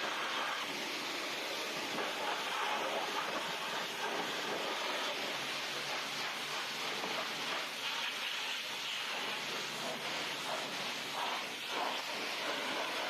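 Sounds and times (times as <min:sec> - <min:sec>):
car wash rushing hiss: 0:00.0 - 0:13.0.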